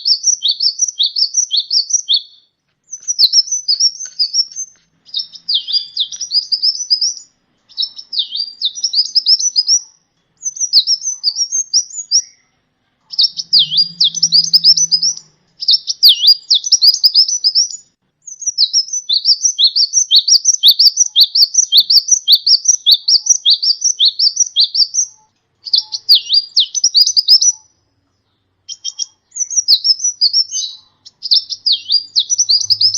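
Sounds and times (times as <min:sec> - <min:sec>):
bird chirping song: 0:00.0 - 0:32.9.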